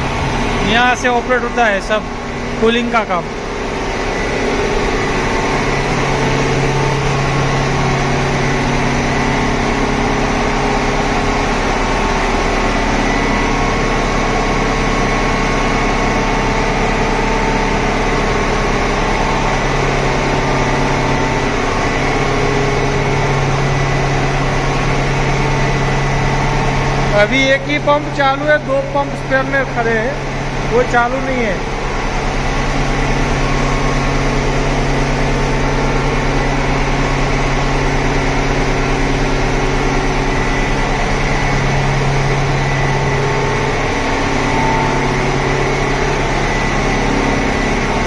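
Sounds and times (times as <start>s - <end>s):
refrigeration compressor running: 0.0s - 48.0s.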